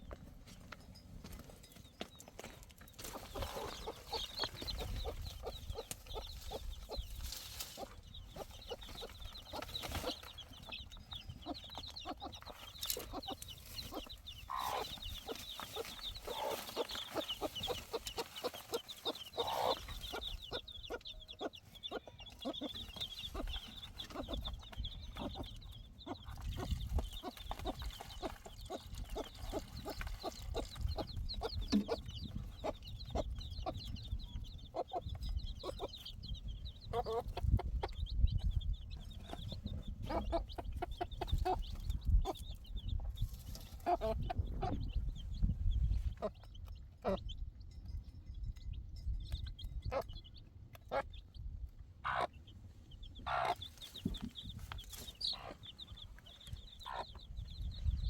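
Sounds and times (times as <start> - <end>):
chickens clucking: 0.0 - 48.0, 48.6 - 58.0.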